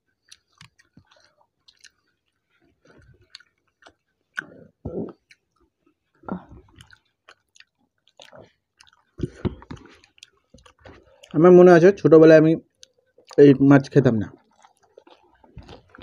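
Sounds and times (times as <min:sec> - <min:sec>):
people chewing and eating: 0:00.0 - 0:16.0.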